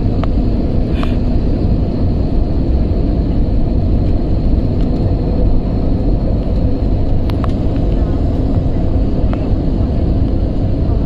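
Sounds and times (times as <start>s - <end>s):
airliner cabin drone: 0.0s - 11.0s
faint steady hum: 0.0s - 11.0s.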